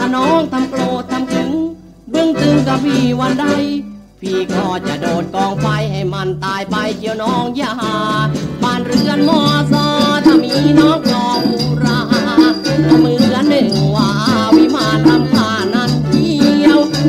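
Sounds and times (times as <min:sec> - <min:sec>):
folk pop song: 0:00.0 - 0:17.0.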